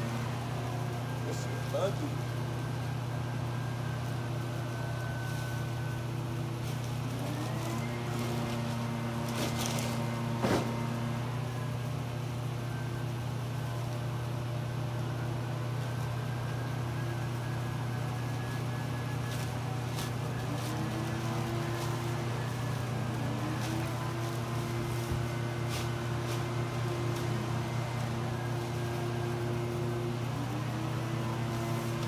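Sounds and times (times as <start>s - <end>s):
low engine-like hum: 0.0s - 32.0s.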